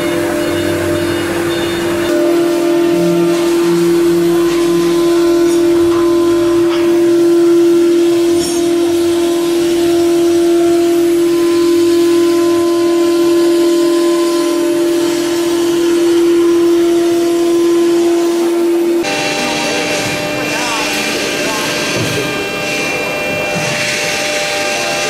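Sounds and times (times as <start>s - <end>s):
router bit cutting wood panel: 0.0s - 25.0s
router spindle whining: 0.0s - 25.0s.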